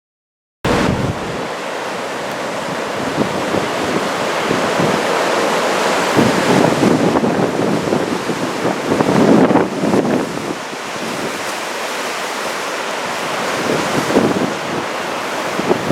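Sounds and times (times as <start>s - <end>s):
wind buffeting microphone: 0.7s - 11.5s, 13.4s - 15.9s
heavy ocean surf breaking: 0.7s - 15.9s.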